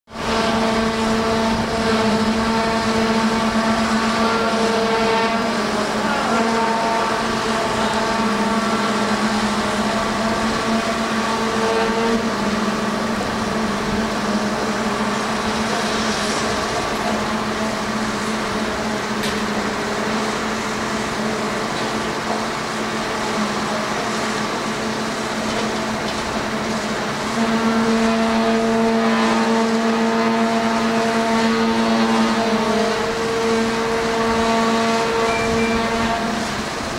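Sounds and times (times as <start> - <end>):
crane engine and hydraulic drone: 0.1 - 36.9.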